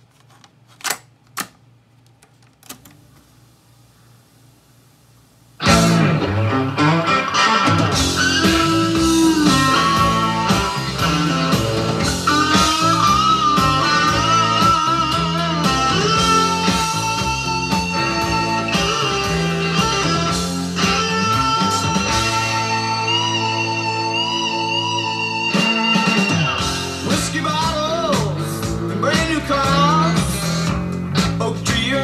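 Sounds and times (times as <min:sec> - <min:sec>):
rock music with electric guitar: 0:05.6 - 0:32.0.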